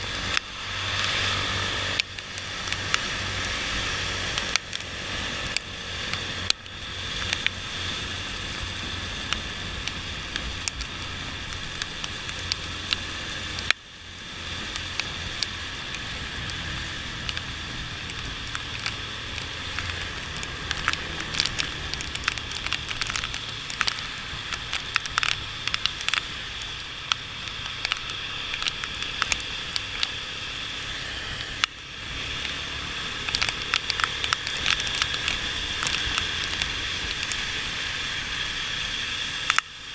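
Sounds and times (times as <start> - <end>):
motorcycle engine hum: 0.0 - 39.9
raindrops hitting microphone: 0.0 - 39.9
tires on wet road: 0.0 - 39.9.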